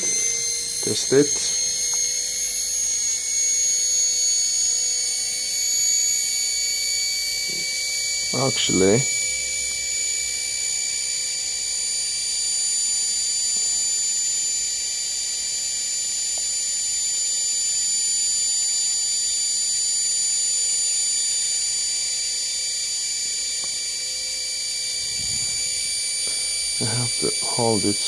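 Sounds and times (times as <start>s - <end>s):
washing machine motor whining: 0.0s - 28.0s.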